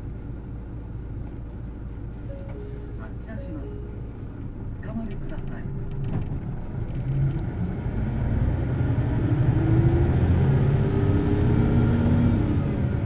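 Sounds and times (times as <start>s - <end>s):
bus engine pulling away: 0.0s - 13.0s.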